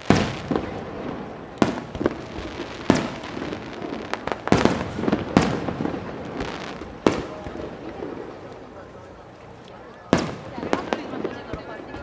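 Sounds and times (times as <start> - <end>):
firework crackling: 0.0 - 12.0
firework shells booming: 0.0 - 12.0.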